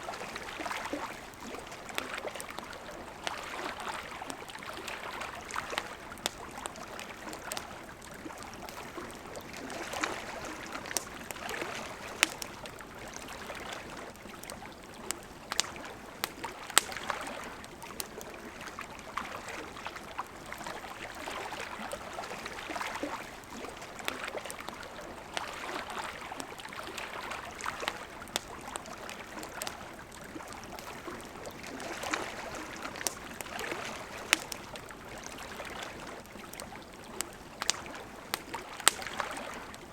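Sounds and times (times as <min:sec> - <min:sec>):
campfire crackling and popping: 0:00.0 - 0:39.9
river water flowing: 0:00.0 - 0:39.9.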